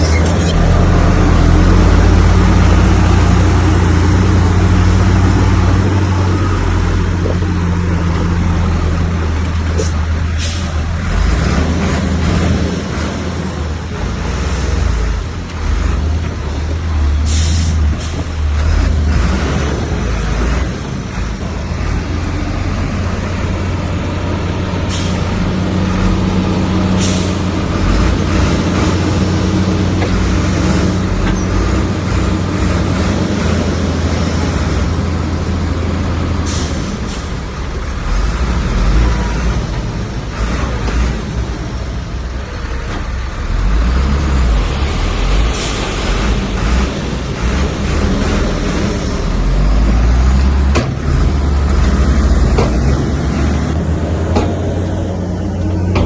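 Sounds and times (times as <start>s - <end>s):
earthmoving machinery engine drone: 0.0s - 56.0s.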